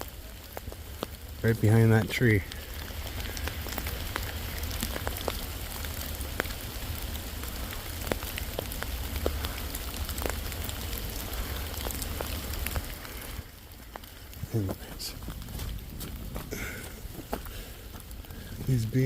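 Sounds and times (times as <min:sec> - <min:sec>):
raindrops ticking close by: 0:00.0 - 0:19.0
steady rain in forest: 0:00.0 - 0:19.0.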